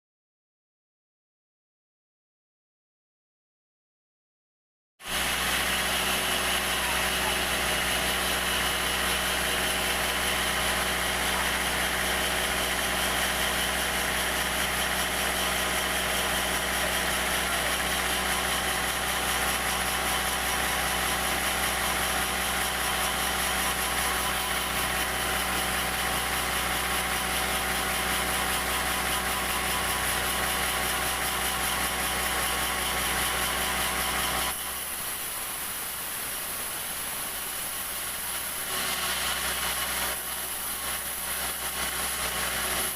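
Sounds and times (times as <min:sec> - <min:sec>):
sawmill engine idling: 0:05.1 - 0:42.9.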